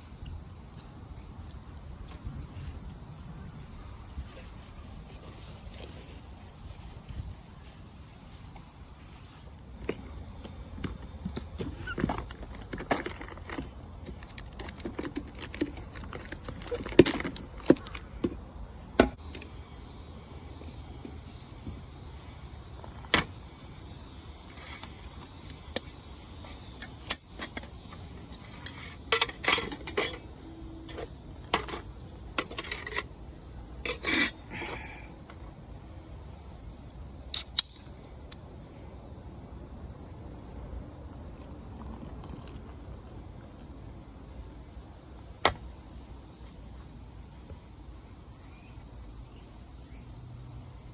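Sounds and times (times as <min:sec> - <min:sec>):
insects chorus: 0:00.0 - 0:50.9.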